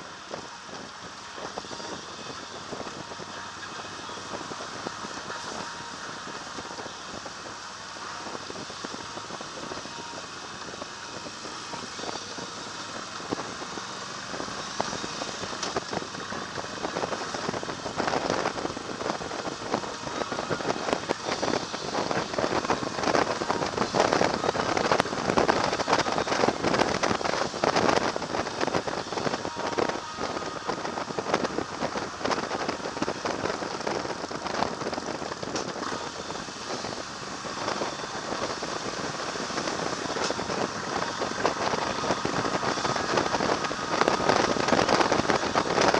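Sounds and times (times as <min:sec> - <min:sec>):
road and traffic noise: 0:00.0 - 0:45.9
wind buffeting on microphone: 0:00.0 - 0:45.9.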